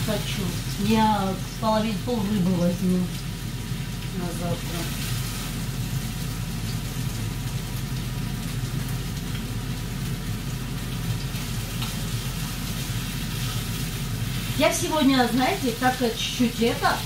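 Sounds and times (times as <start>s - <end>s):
fish sizzling in a pan: 0.0s - 17.0s
low hum: 0.0s - 17.0s.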